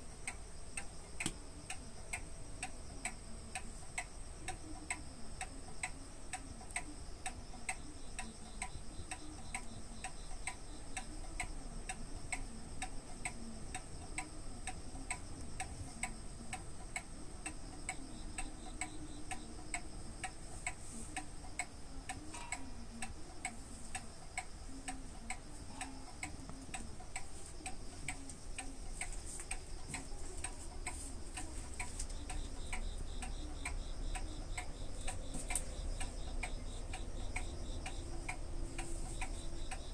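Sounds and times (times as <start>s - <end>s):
steady ticking: 0.0s - 39.9s.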